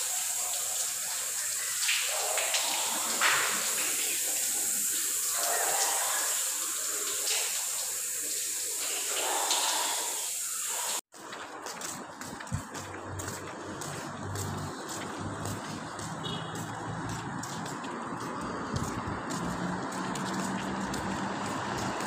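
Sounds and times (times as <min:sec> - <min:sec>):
water running from taps: 0:00.0 - 0:11.1, 0:12.3 - 0:22.0.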